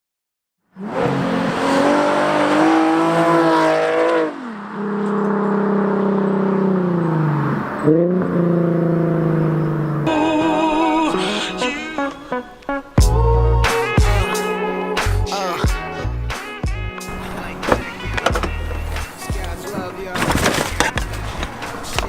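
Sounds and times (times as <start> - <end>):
car engine revving: 0.7 - 11.7, 14.1 - 22.0.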